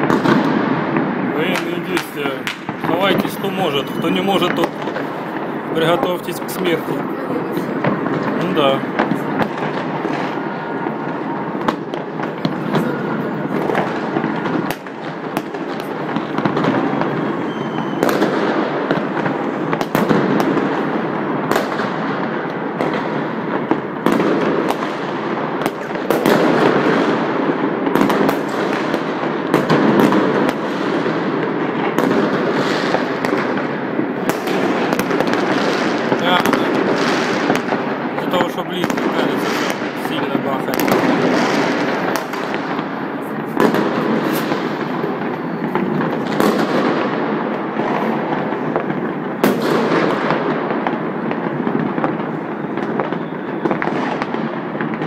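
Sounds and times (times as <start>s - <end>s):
fireworks crackling: 0.0s - 55.0s
sharp fireworks bangs: 0.0s - 55.0s.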